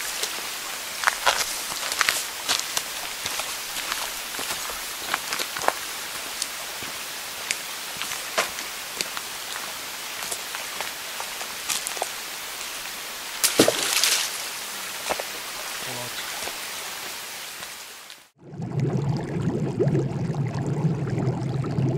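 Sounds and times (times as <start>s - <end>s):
steady rushing hiss: 0.0s - 18.4s.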